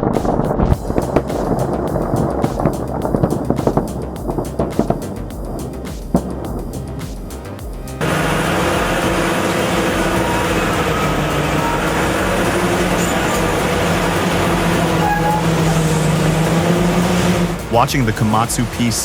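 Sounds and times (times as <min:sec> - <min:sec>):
large diesel engine droning: 0:00.8 - 0:19.0.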